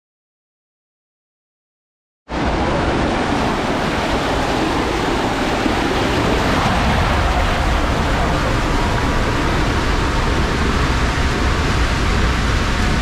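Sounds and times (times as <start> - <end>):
water rushing through slide tube: 2.3 - 13.0.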